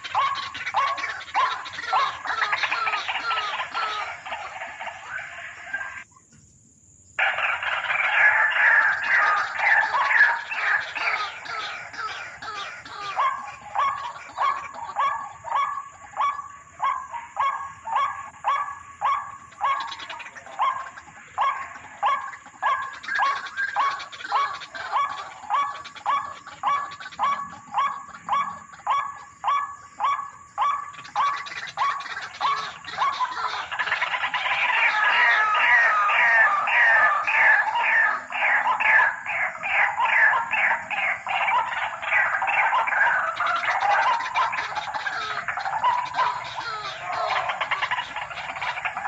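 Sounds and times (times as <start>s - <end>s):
waterhen calling: 0.0s - 6.0s, 7.2s - 49.0s
higher overlapping bird notes: 0.0s - 6.2s, 7.1s - 49.0s.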